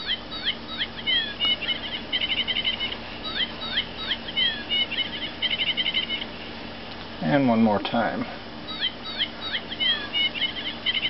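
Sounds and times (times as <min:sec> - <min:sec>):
electronic birdsong chirps and trill: 0:00.0 - 0:06.7, 0:08.5 - 0:11.0.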